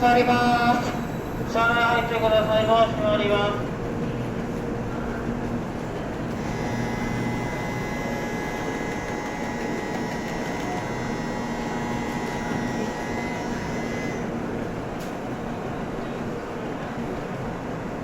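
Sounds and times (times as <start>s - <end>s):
electric train whine: 0.0s - 18.0s
low train rumble: 0.0s - 18.0s.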